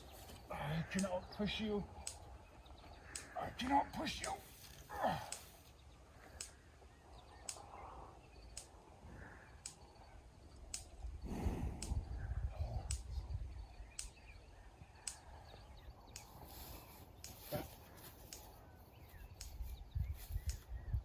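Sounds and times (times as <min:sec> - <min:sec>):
electric fence ticks: 0:00.0 - 0:12.1, 0:12.8 - 0:20.7.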